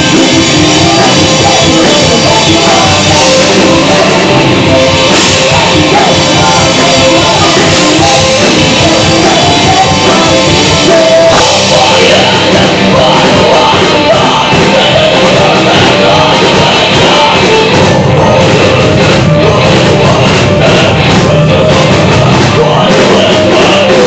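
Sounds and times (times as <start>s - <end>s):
live rock band with electric guitar: 0.0s - 24.0s.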